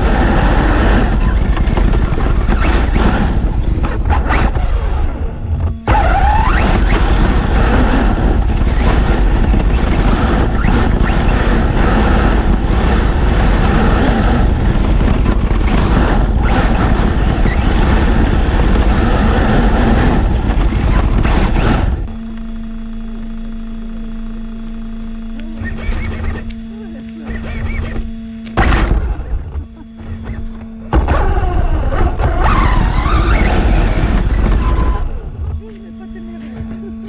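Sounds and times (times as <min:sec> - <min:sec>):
electric motor noise: 0:00.0 - 0:37.0
rc car rumbling over dirt: 0:00.0 - 0:37.0
steady low hum: 0:00.0 - 0:37.0.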